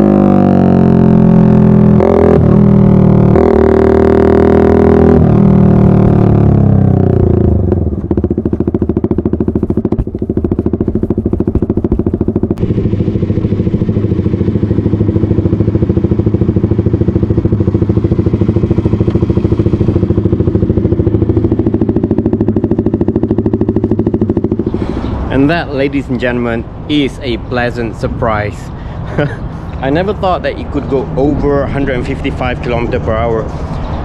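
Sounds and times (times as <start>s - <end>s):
motorcycle engine slowing: 0.0s - 34.0s.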